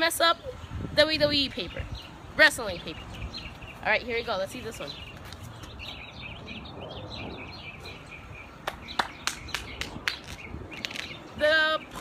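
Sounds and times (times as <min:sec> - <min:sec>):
wind rumble on microphone: 0:00.0 - 0:03.8, 0:05.7 - 0:12.0
small birds chirping: 0:00.0 - 0:12.0.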